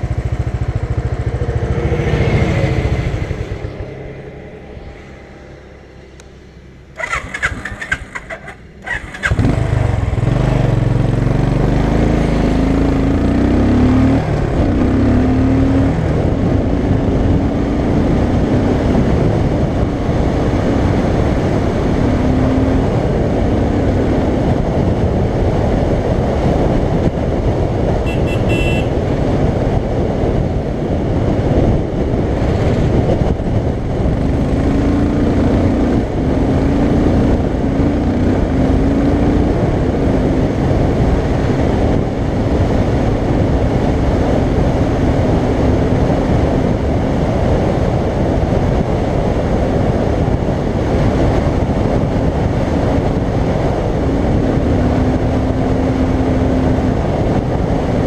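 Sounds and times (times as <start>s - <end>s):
motorcycle engine running: 0.0s - 58.0s
wind rushing on microphone: 7.0s - 58.0s.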